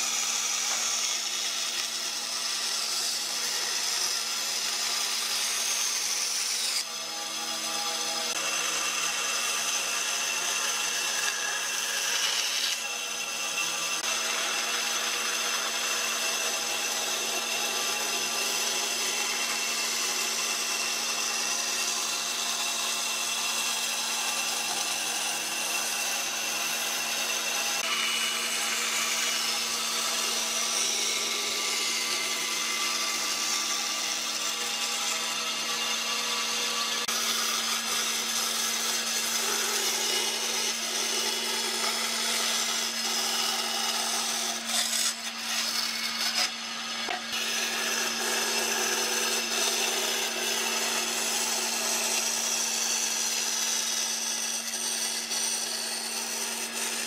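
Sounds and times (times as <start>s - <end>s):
band saw motor hum: 0.0s - 57.0s
saw blade cutting wood: 0.0s - 57.0s.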